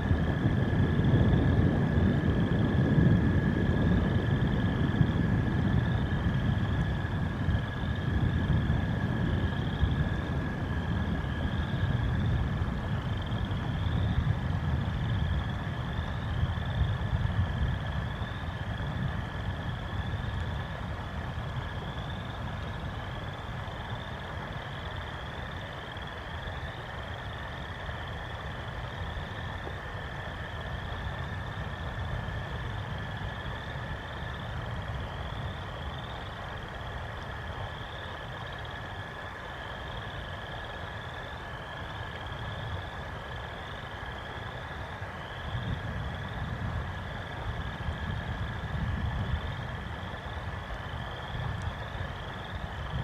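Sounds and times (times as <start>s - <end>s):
frogs peeping: 0.0s - 53.0s
steady low rumble: 0.0s - 53.0s.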